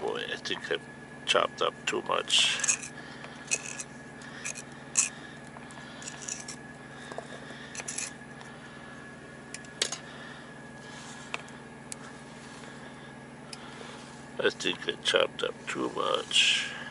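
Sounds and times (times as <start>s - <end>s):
steady background hum: 0.0s - 16.9s.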